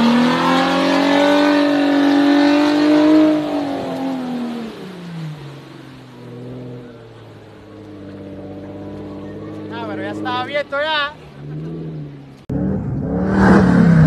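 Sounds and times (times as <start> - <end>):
engine revving: 0.0 - 14.0
tires spinning through wet sand: 0.0 - 14.0.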